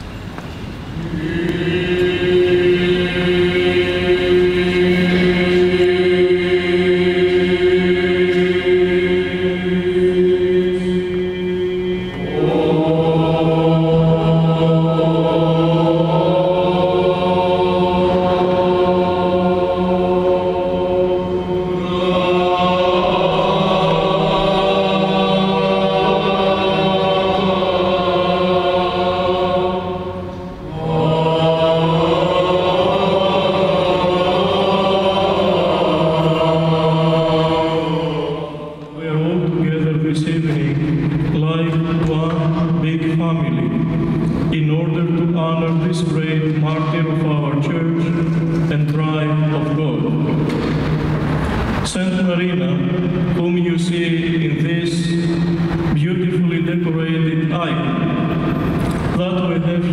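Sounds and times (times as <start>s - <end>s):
low vocal drone: 0.8s - 59.9s
voices chanting held notes: 0.8s - 59.9s.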